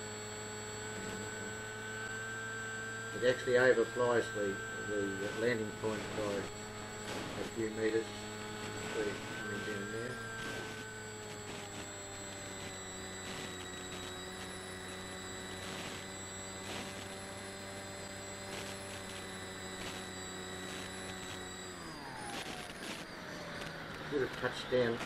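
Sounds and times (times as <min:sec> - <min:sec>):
electric motor and propeller: 0:00.0 - 0:25.0.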